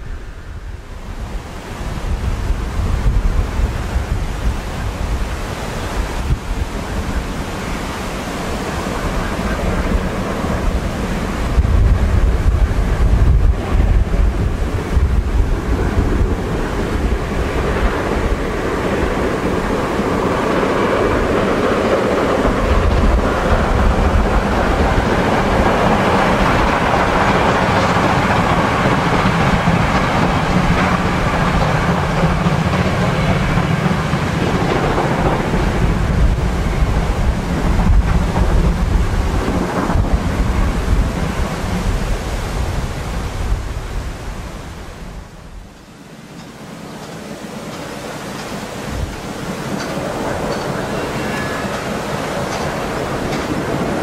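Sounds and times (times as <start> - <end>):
distant steam locomotive exhaust: 0.0 - 54.0
wind noise on microphone: 0.0 - 54.0.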